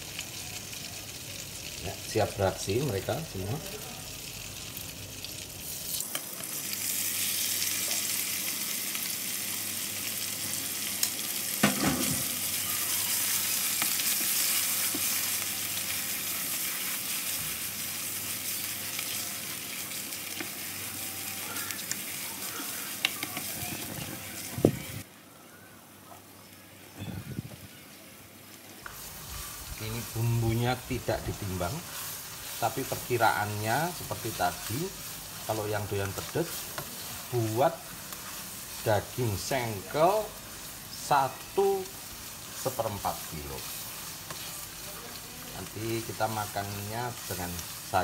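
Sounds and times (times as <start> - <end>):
spice paste sizzling in oil: 0.0 - 25.1, 27.7 - 48.0.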